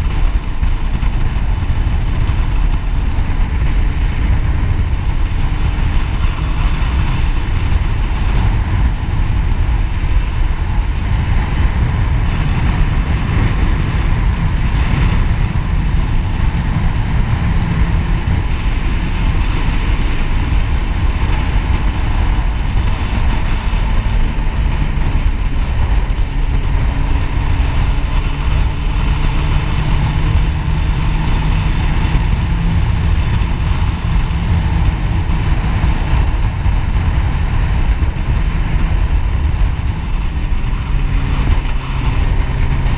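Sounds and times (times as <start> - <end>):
motorcycle engine hum: 0.0 - 42.9
wind rushing: 0.0 - 42.9.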